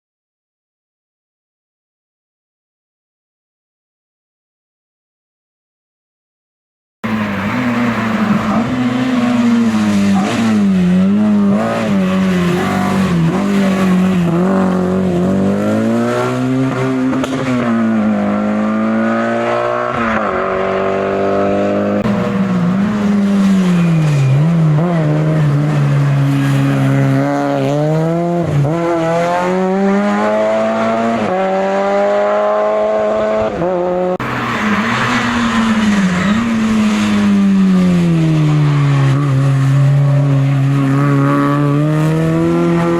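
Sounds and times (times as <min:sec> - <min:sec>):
race car engine revving: 0:07.0 - 0:42.9.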